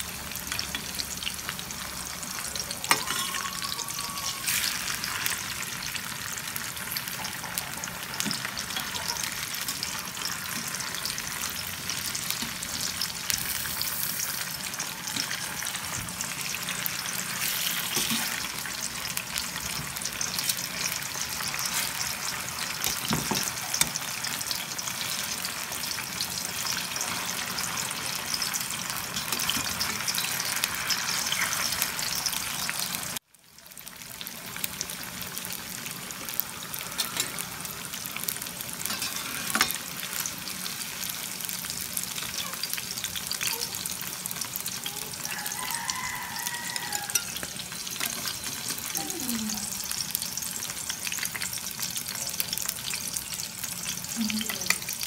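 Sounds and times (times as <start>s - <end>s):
tofu sizzling in hot oil: 0.0s - 55.0s.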